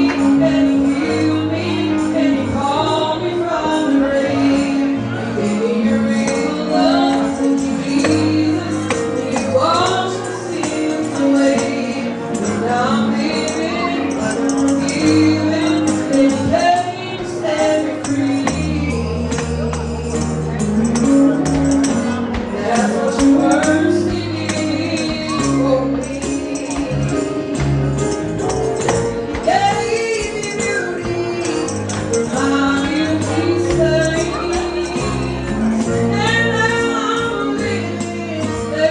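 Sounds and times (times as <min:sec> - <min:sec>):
person singing: 0:00.0 - 0:38.9
tambourine beat: 0:00.0 - 0:38.9.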